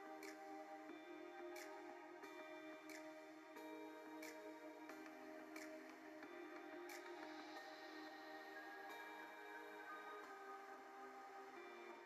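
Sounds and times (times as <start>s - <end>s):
music with held chords: 0.0s - 12.0s.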